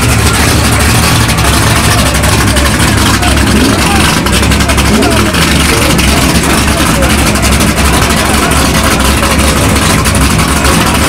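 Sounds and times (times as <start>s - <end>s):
crowd voices: 0.0s - 11.0s
drag car engine idling: 0.0s - 11.0s.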